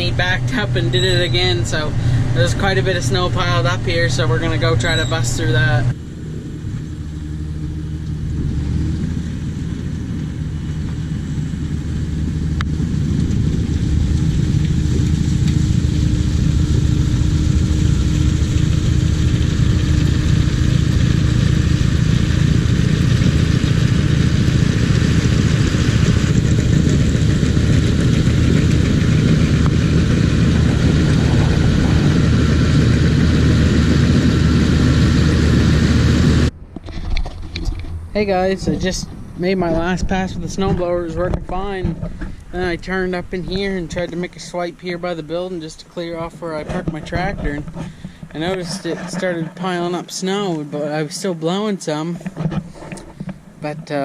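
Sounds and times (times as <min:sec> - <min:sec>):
snowblower working through snow: 0:00.0 - 0:54.0
tractor engine running: 0:00.0 - 0:54.0.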